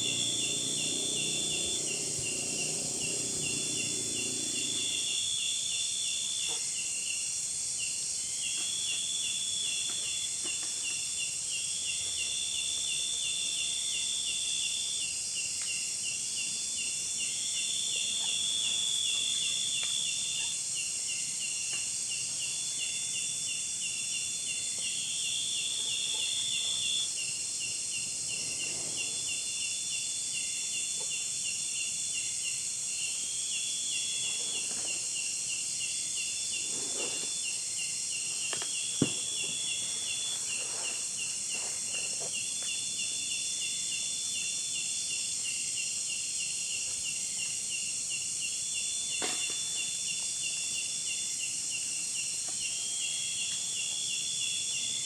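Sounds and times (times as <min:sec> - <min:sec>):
insects buzzing: 0:00.0 - 0:55.0
rapid pulsing insect call: 0:00.0 - 0:55.0.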